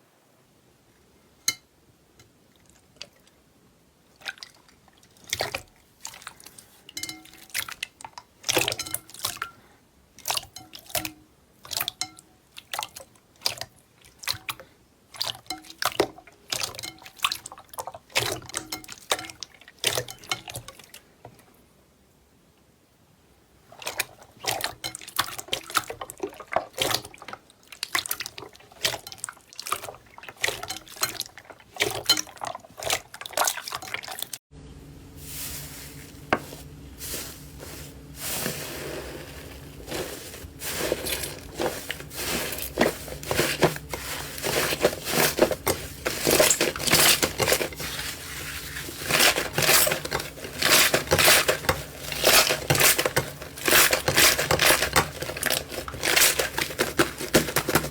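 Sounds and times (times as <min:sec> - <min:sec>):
faint steady hum: 0:00.0 - 0:27.8, 0:34.5 - 0:57.9.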